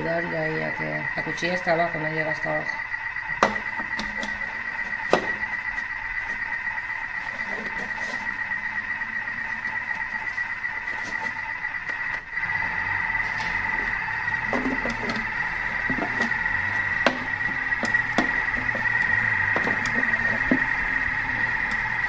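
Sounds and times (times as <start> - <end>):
food processor motor whining: 0.0 - 22.0.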